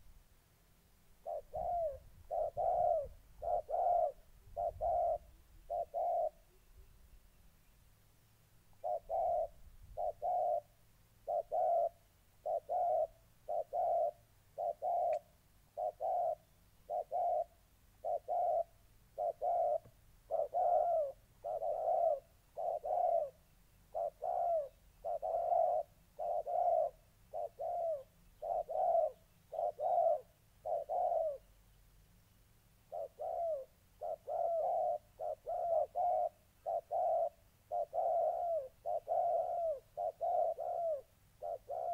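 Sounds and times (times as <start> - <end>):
doves cooing: 1.2 - 6.9, 8.7 - 31.5, 32.9 - 41.9.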